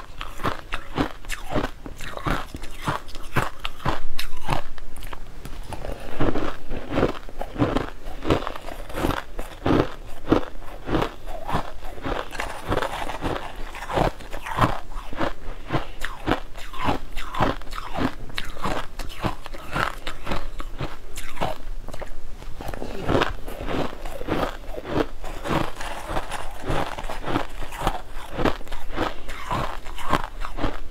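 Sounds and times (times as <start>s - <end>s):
person crunching ice: 0.0s - 30.9s.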